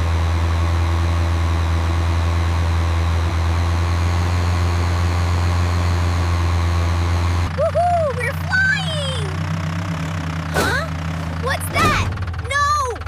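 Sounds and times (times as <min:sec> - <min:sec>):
cartoon tractor engine drone: 0:00.0 - 0:13.0.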